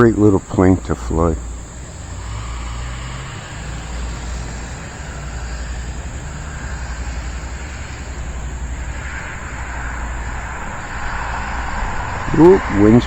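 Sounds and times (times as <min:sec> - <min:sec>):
faint high whine: 0:00.0 - 0:13.0
wind buffeting microphone: 0:00.0 - 0:13.0.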